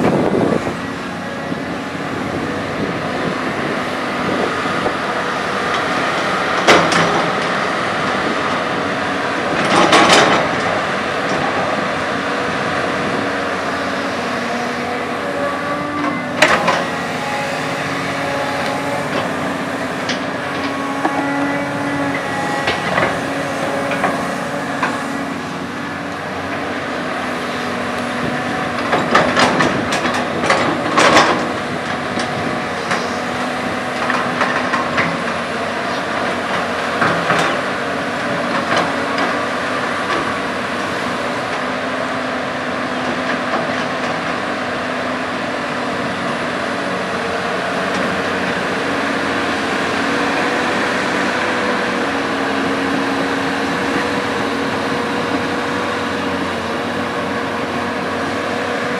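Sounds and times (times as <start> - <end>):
excavator diesel engine: 0.0 - 58.9.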